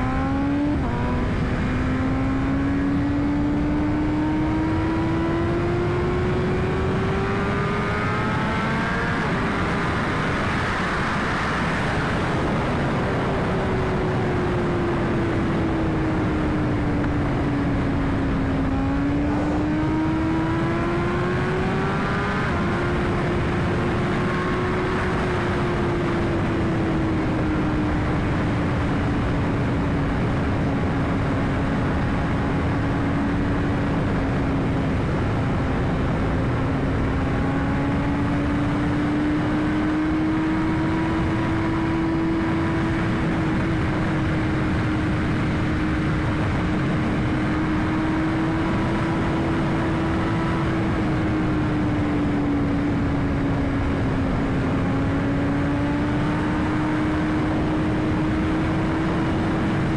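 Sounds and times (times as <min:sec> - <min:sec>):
motorcycle engine cruising: 0:00.0 - 0:59.9
wind rush: 0:00.0 - 0:59.9.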